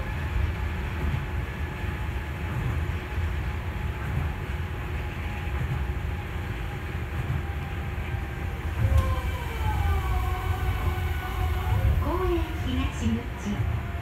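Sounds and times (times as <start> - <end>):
monorail train rumbling: 0.0 - 14.0.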